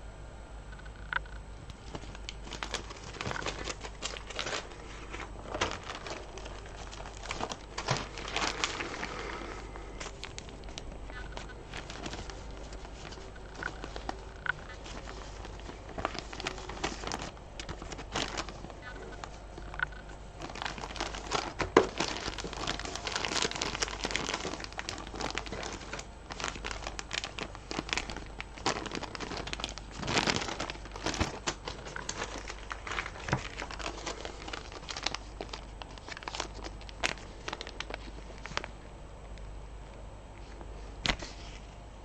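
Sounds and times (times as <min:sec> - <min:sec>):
beads and containers crinkling: 0:02.0 - 0:09.2, 0:10.0 - 0:38.7.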